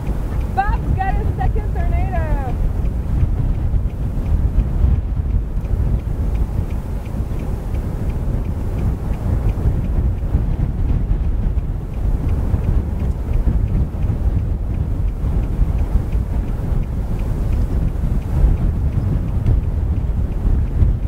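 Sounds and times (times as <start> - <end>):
faint regular ticking: 0.0 - 21.0
wind buffeting microphone: 0.0 - 21.0.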